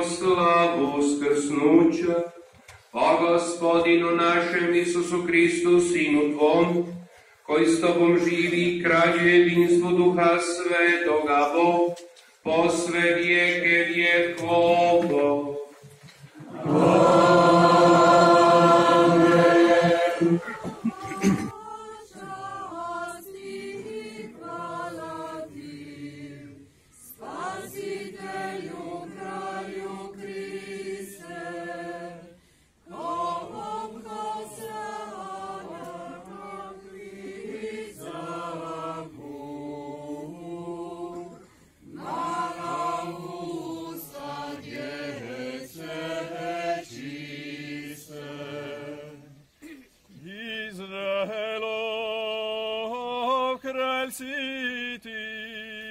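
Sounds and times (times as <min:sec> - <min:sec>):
congregation singing a hymn: 0:00.0 - 0:55.9.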